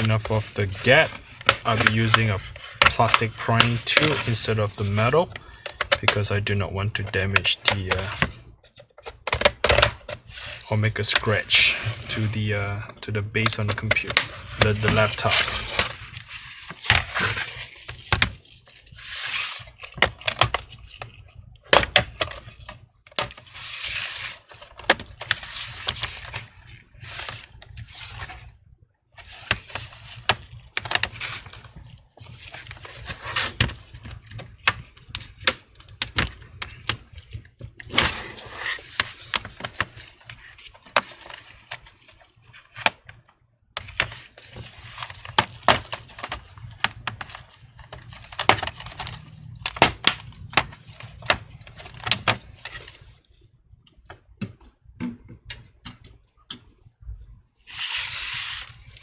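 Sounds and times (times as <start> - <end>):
plastic tool scraping plastic: 0.0 - 28.6, 29.2 - 53.3, 57.6 - 59.0.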